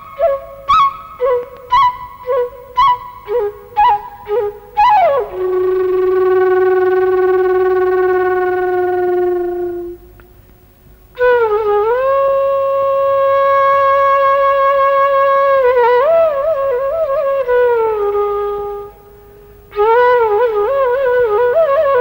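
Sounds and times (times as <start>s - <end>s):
bamboo flute solo: 0.0s - 10.4s, 11.2s - 22.0s.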